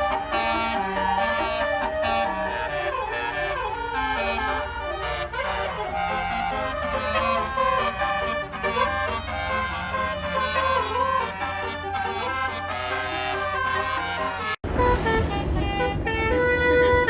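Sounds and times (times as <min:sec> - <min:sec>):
bus engine rumble: 0:00.0 - 0:17.0
multi-note air horn melody: 0:00.0 - 0:17.0.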